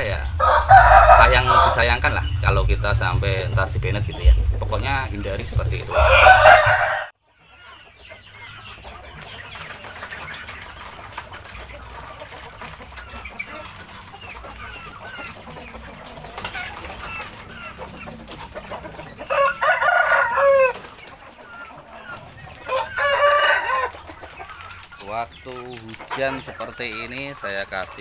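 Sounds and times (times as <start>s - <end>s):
flock of chickens clucking: 0.0s - 28.0s.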